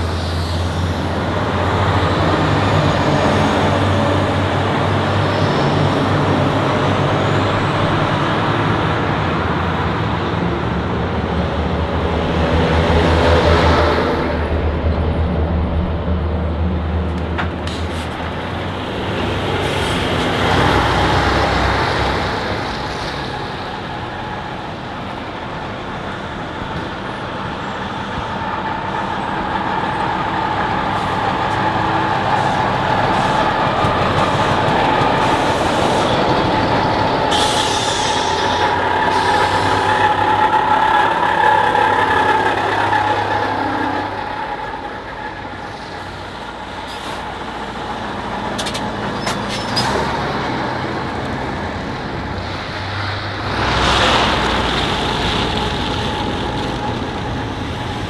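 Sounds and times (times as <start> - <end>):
trucks driving past: 0.0 - 58.0.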